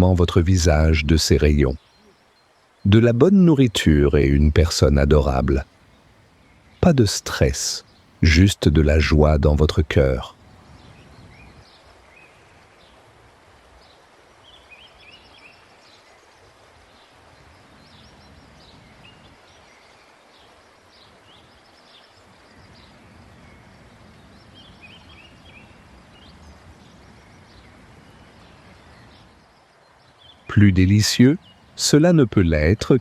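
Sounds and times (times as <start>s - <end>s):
small birds chirping: 0.0s - 33.0s
soft steady noise: 0.0s - 33.0s.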